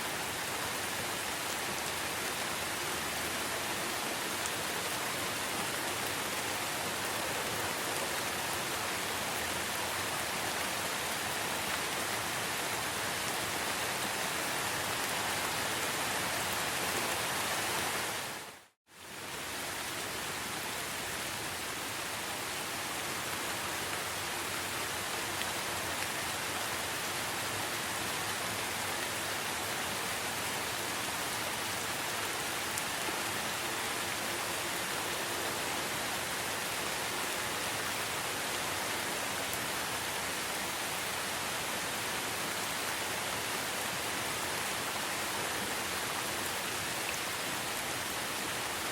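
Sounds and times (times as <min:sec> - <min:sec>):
rain falling in a forest: 0:00.0 - 0:48.9.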